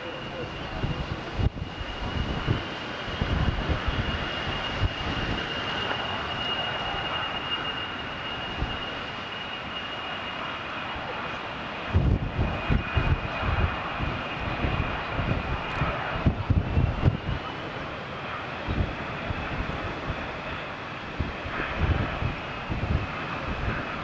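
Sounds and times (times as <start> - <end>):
jet engines whining: 0.0 - 24.0.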